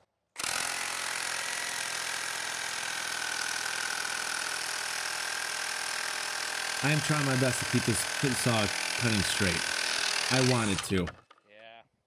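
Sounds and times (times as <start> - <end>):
reciprocating saw cutting boards: 0.0 - 11.4.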